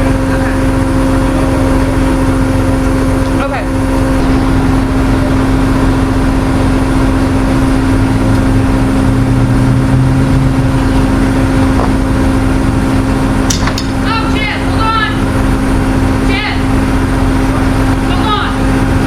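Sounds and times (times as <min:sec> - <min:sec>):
vehicle engine droning: 0:00.0 - 0:19.0
lower hum: 0:02.2 - 0:19.0.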